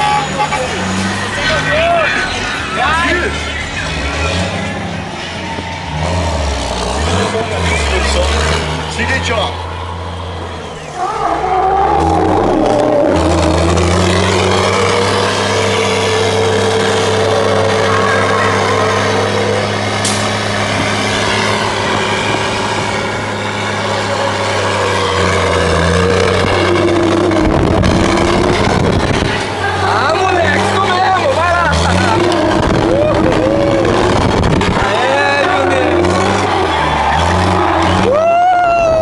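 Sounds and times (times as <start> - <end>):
truck diesel engines running: 0.0 - 39.0.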